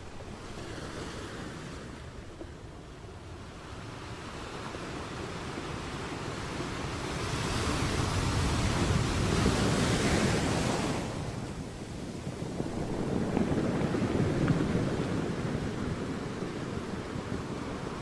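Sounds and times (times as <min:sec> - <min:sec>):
sea waves on shore: 0:00.0 - 0:18.0.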